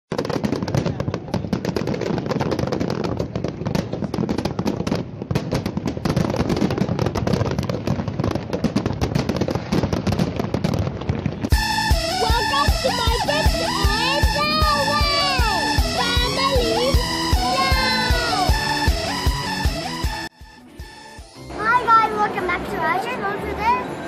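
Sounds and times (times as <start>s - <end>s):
fireworks bangs and crackles: 0.1s - 22.0s.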